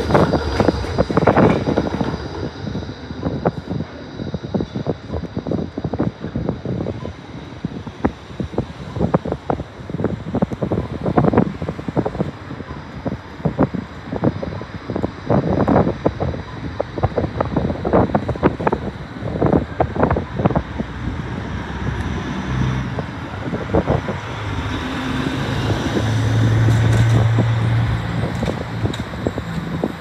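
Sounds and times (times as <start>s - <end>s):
tram running on tracks: 0.0s - 30.0s
wind buffeting microphone: 0.0s - 30.0s.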